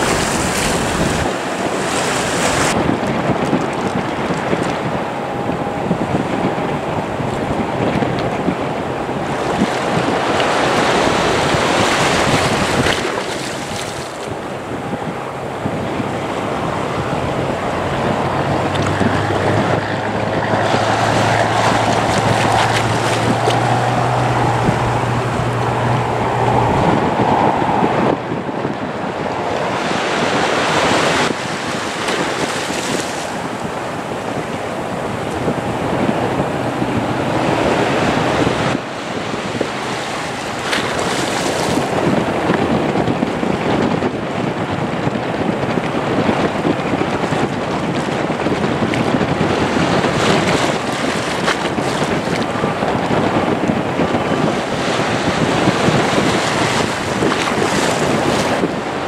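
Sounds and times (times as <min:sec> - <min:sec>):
wind buffeting microphone: 0:00.0 - 0:59.0
jet engines humming and whining: 0:00.9 - 0:32.5, 0:33.1 - 0:59.0.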